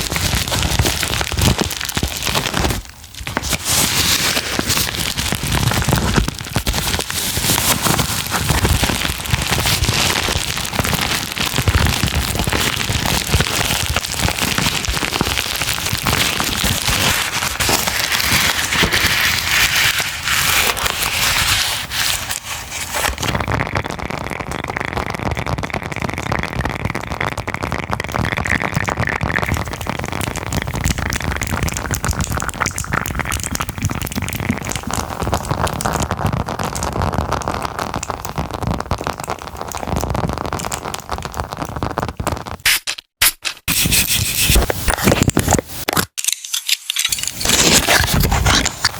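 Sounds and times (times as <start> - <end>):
packaging crackling and scraping: 0.0 - 48.9.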